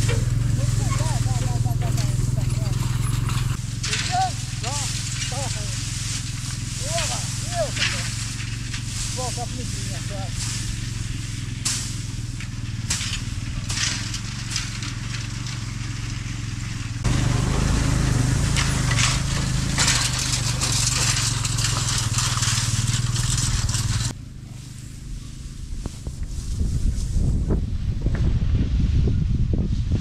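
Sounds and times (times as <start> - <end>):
motor tricycle engine running: 0.0 - 27.8
dry hay rustling and scraping: 0.0 - 28.0.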